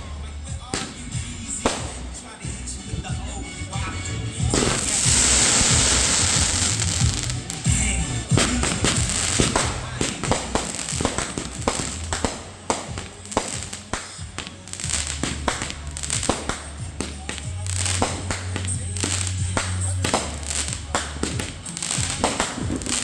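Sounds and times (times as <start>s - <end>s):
fireworks popping and crackling: 0.0s - 23.0s
music playing: 0.0s - 23.0s.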